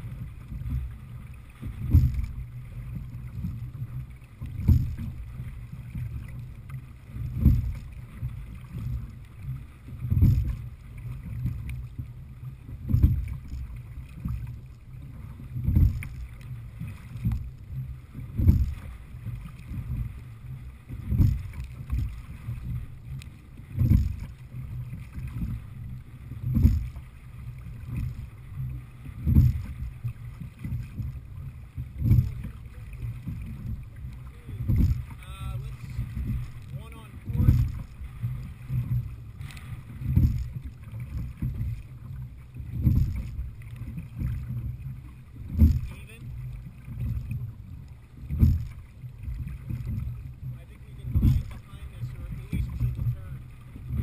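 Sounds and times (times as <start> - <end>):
low rumble of water and wind: 0.0 - 54.0
rowing stroke thumps: 0.0 - 54.0.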